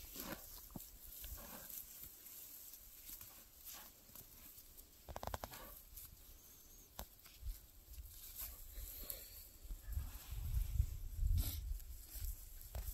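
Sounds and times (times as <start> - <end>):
rustling in dry grass: 0.0 - 12.9.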